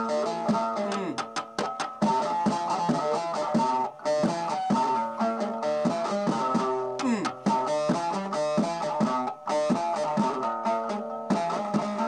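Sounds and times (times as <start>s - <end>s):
plucked string instrument notes: 0.0s - 12.0s.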